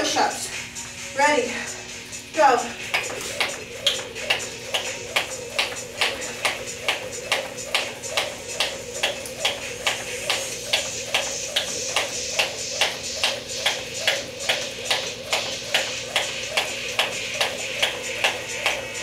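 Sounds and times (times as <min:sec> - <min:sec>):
jump rope tapping floor: 0:02.8 - 0:18.8.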